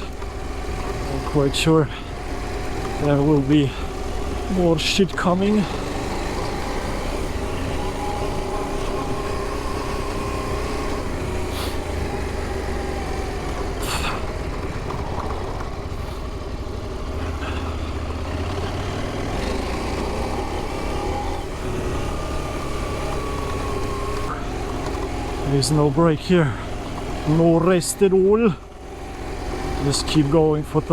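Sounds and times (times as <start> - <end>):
motorcycle engine running off-road: 0.0 - 30.9.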